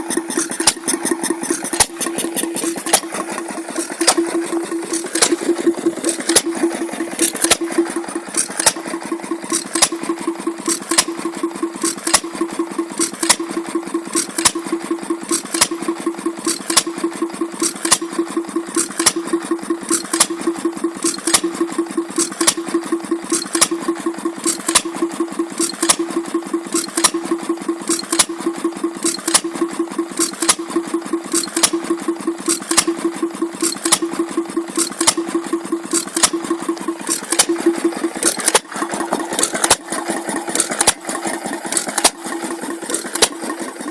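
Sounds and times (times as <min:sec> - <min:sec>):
model engine running: 0:00.0 - 0:43.9
sharp regular engine clicks: 0:00.0 - 0:43.9.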